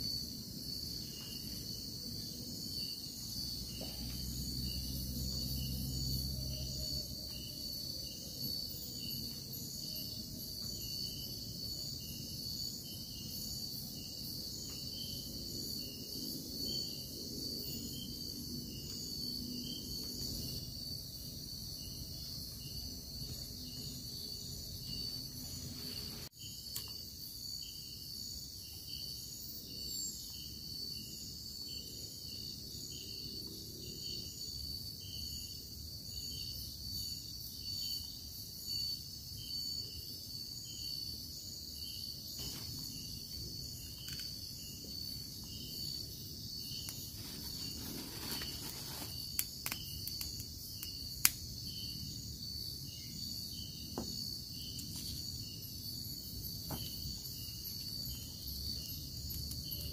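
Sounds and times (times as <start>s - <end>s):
pulsing insect chirp: 0.0s - 59.9s.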